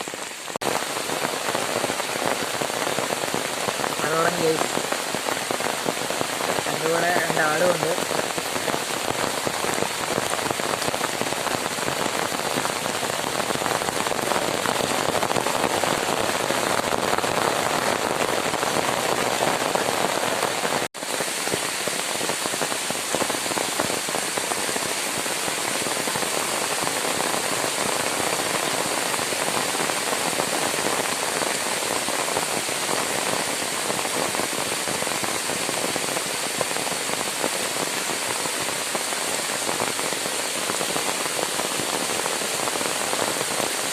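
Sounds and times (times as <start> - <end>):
rain falling steadily: 0.0 - 43.9.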